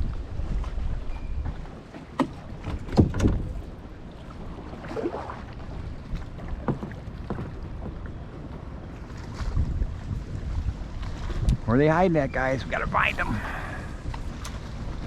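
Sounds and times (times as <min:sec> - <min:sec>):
water splashing against hull: 0:00.0 - 0:11.7, 0:12.7 - 0:15.0
wind rumble on microphone: 0:00.0 - 0:15.0.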